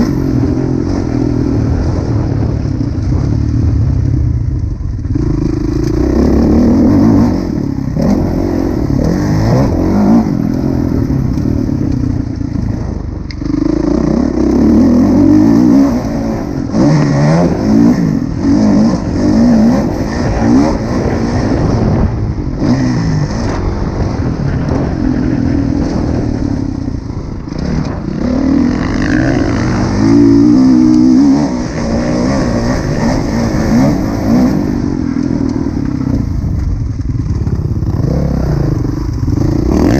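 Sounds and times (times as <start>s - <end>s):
motocross engine revving: 5.0s - 26.5s, 27.5s - 36.5s, 37.4s - 39.9s.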